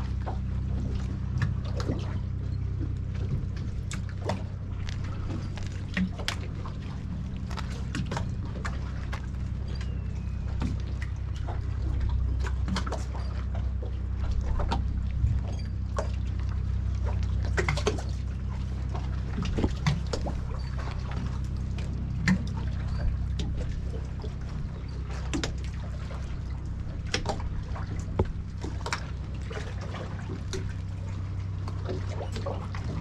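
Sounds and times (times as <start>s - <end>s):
small splashes and clicks: 0.0s - 33.0s
steady low rumble: 0.0s - 33.0s
water lapping against a hull: 0.0s - 33.0s.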